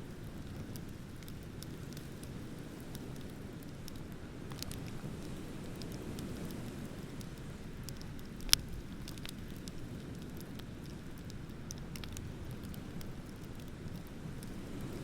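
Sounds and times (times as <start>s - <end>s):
bonfire crackling: 0.0s - 15.0s
sharp pops of fire: 0.1s - 15.0s.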